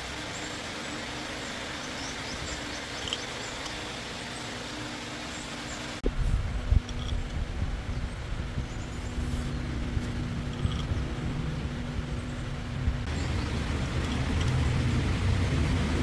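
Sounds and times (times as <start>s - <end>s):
engine rumbling: 0.0s - 16.0s
steady hum: 0.0s - 16.0s.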